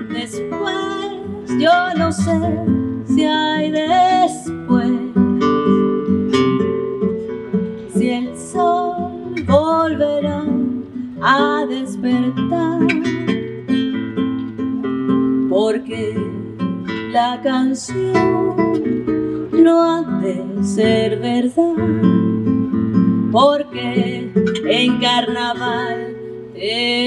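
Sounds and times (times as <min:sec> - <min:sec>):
woman singing with vibrato: 0:00.0 - 0:06.1, 0:07.9 - 0:14.0, 0:15.4 - 0:22.5, 0:23.2 - 0:27.0
classical guitar plucking: 0:00.0 - 0:27.0.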